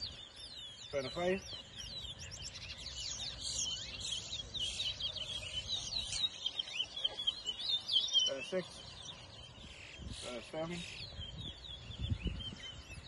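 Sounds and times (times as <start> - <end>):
finches singing: 0.0 - 13.0.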